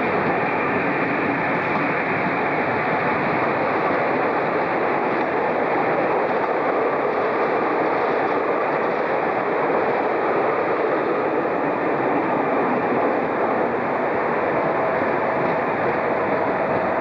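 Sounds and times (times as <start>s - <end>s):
train wheels on track: 0.0s - 17.0s.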